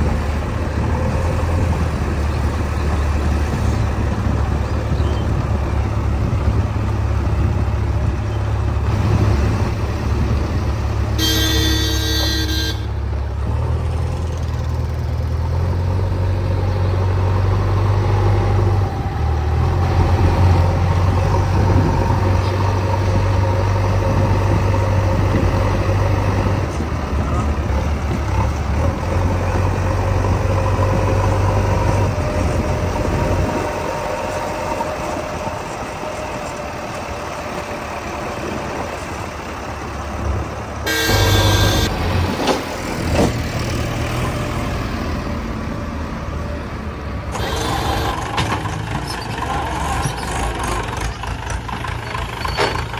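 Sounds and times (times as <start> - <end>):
backhoe diesel engine running: 0.0 - 52.9.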